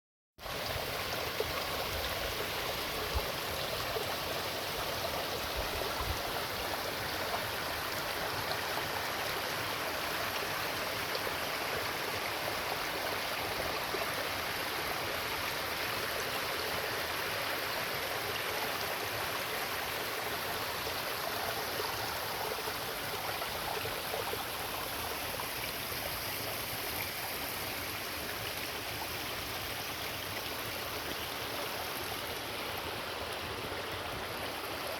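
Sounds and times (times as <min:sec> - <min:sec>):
rushing stream water: 0:00.4 - 0:34.9.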